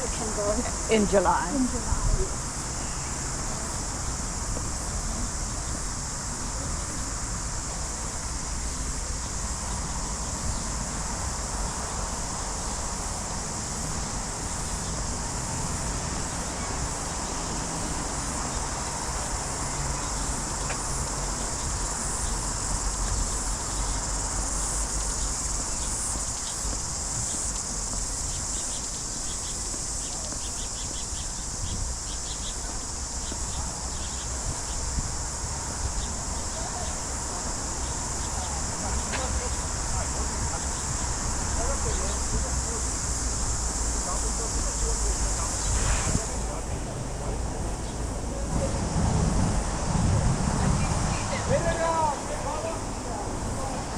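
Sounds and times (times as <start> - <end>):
insects buzzing: 0.0 - 53.9.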